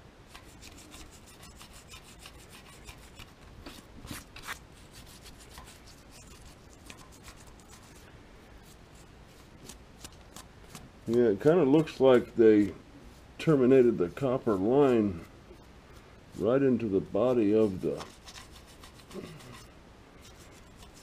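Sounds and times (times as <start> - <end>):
rubbing scrapes: 0.3 - 10.4, 11.7 - 21.0.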